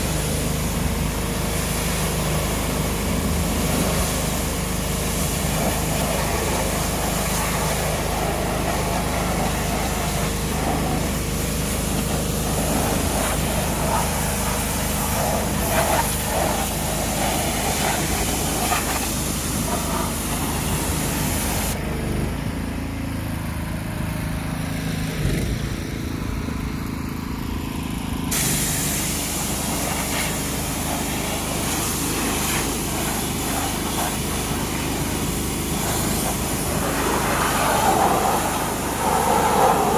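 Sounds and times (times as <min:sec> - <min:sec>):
water spray hissing: 0:00.0 - 0:21.8, 0:28.3 - 0:39.9
pressure washer motor hum: 0:00.0 - 0:22.2, 0:25.8 - 0:39.9.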